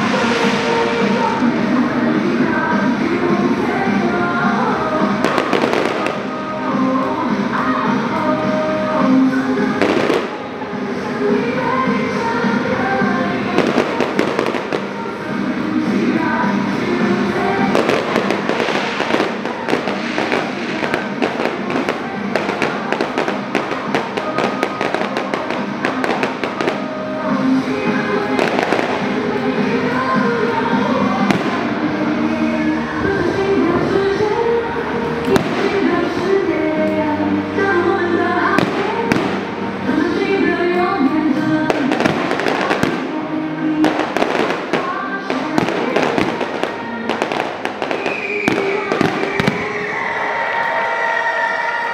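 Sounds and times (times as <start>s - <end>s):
fireworks crackling and banging: 0.0s - 7.5s, 9.6s - 32.3s, 35.2s - 36.5s, 38.5s - 40.2s, 41.4s - 49.9s
music playing: 0.0s - 51.9s.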